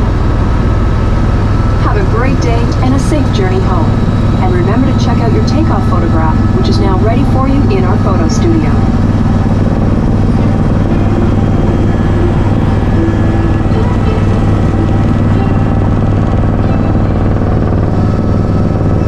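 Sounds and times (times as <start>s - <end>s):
helicopter engine and rotors: 0.0s - 19.0s.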